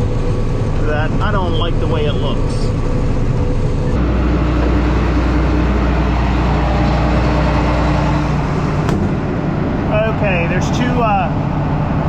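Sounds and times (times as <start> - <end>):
combine harvester running: 0.0 - 12.0
deep steady drone: 0.0 - 12.0.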